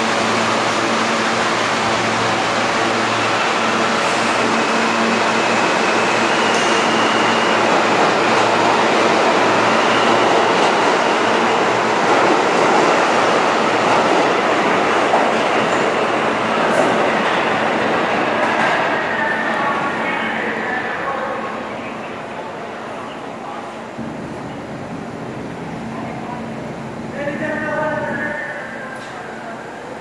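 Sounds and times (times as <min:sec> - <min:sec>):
subway train wheels on rails: 0:00.0 - 0:30.0.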